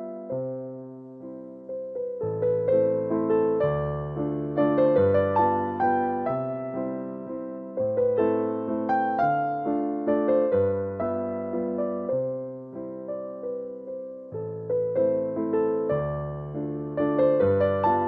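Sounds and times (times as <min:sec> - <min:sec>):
gentle keyboard piano melody: 0:00.0 - 0:18.0.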